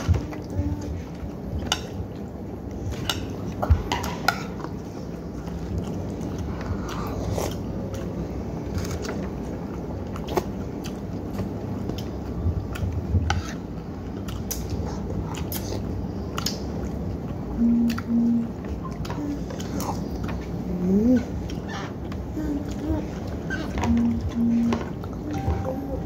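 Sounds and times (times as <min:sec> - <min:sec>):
chewing: 0:00.1 - 0:18.0, 0:18.6 - 0:25.2.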